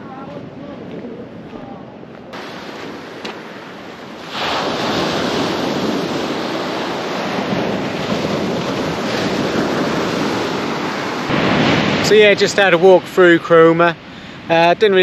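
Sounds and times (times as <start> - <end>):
wind on microphone: 0.0 - 13.2
sea waves washing on beach: 2.3 - 15.0.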